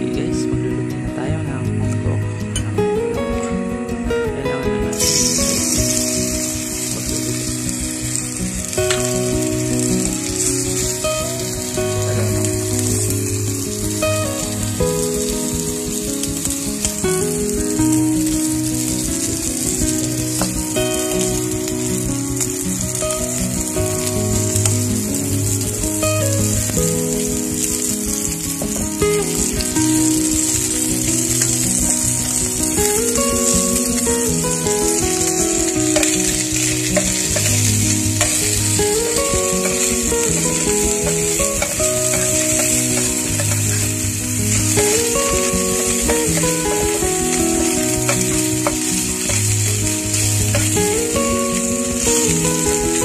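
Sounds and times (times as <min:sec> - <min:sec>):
background music of held notes: 0:00.0 - 0:53.0
food sizzling in hot oil: 0:01.7 - 0:53.0.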